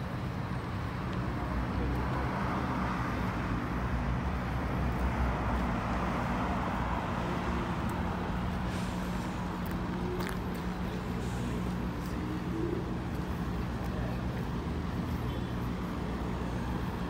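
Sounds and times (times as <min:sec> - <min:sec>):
low engine hum of traffic: 0:00.0 - 0:17.0.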